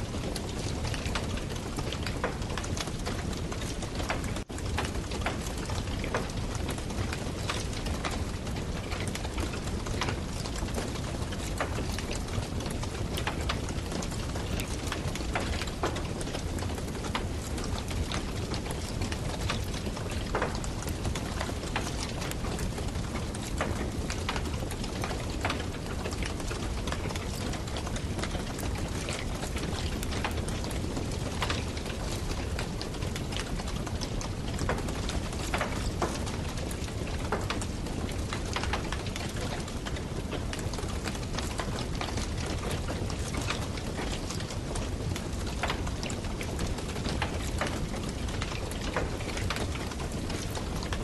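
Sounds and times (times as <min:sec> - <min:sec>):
campfire wood crackling: 0:00.0 - 0:51.0.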